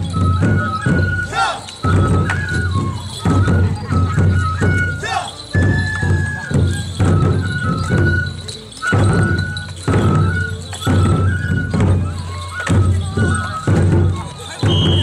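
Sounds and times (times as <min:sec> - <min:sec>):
bamboo flute melody: 0:00.0 - 0:15.0
taiko drum beats: 0:00.0 - 0:15.0.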